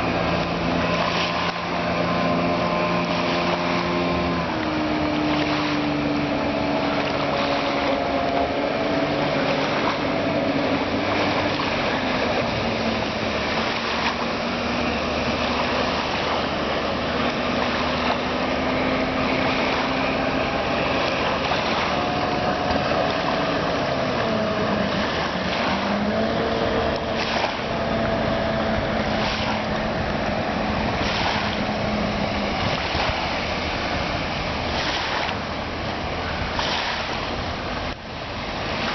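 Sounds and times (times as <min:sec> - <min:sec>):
boat engine droning: 0:00.0 - 0:38.9
hiss of wind and water: 0:00.0 - 0:38.9.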